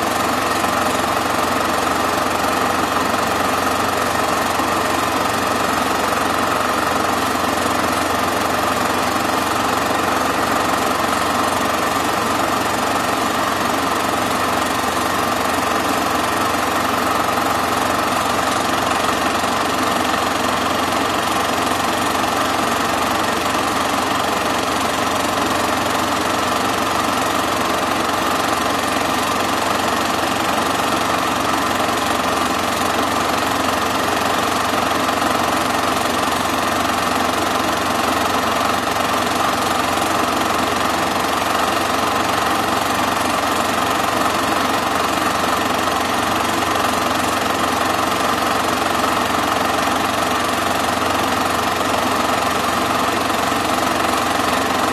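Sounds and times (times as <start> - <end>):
film projector whirring and clattering: 0.0 - 54.9.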